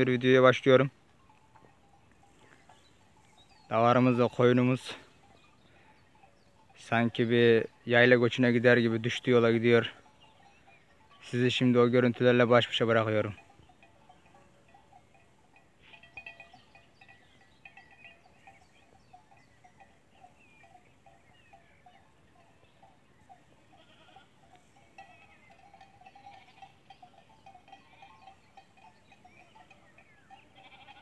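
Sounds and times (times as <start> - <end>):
distant goats and sheep: 0.0 - 31.0
livestock bells jingling: 0.0 - 31.0.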